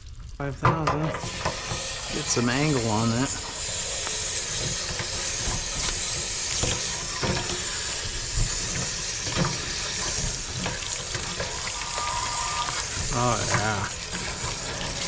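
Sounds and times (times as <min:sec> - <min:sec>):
water running out: 0:00.0 - 0:15.0
water jet hissing into tank: 0:01.0 - 0:15.0.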